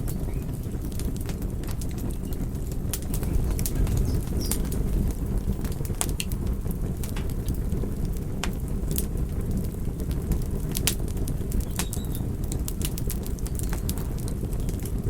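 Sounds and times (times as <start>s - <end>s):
fire popping and snapping: 0.0s - 15.0s
low rumble of flames: 0.0s - 15.0s
wood fire crackling: 0.0s - 15.0s.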